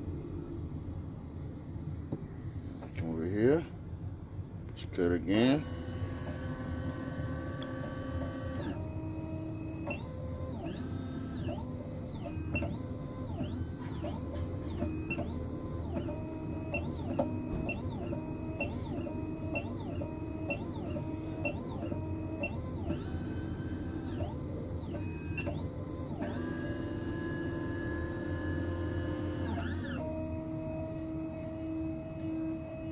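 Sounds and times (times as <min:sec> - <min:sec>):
key cutting machine motor hum: 0:05.3 - 0:32.9
stepper motors whining: 0:05.4 - 0:32.9.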